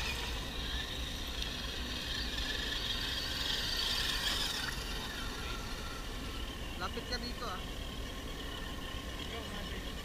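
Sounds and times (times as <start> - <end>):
electric motors whining: 0.0 - 10.0.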